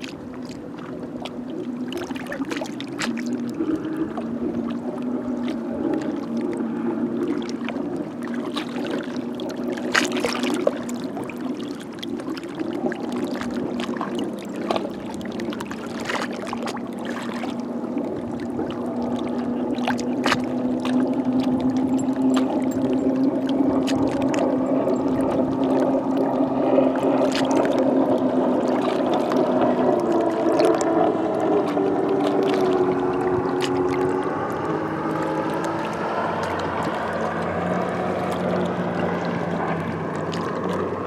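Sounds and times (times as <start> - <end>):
small waves lapping on rocks: 0.0 - 41.0.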